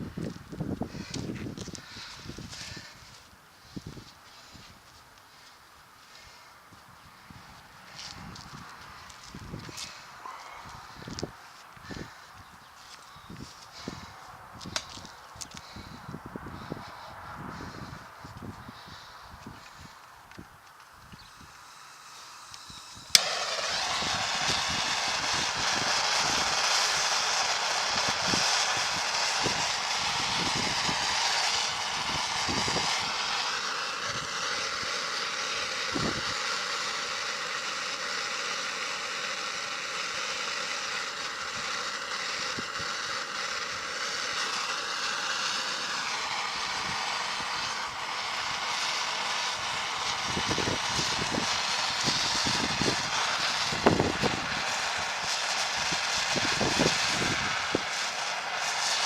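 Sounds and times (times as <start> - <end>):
machine droning: 0.0 - 59.0.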